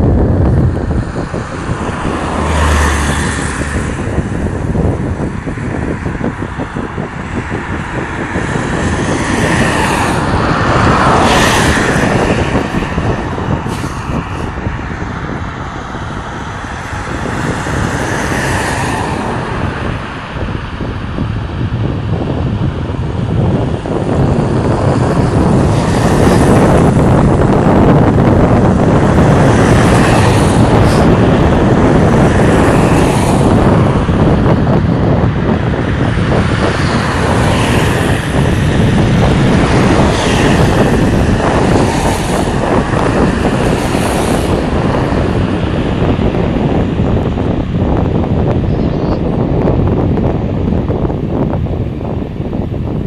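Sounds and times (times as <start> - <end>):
vehicles passing tyre noise: 0.0 - 53.0
wind buffeting microphone: 0.0 - 53.0.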